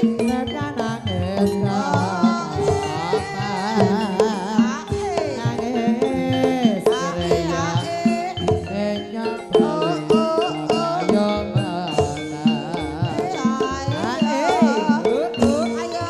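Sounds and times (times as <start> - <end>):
drum strokes: 0.0 - 16.0
sustained tuned percussion notes: 0.0 - 16.0
wavering sliding melody: 0.0 - 16.0.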